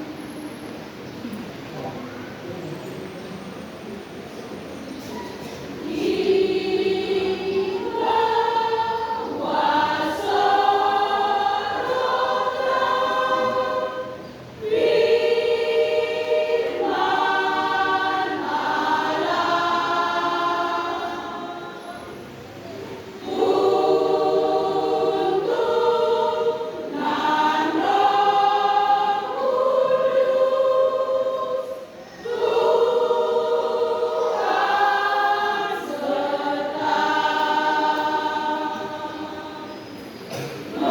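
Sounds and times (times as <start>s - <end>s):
women's choir singing a hymn: 4.4s - 40.9s.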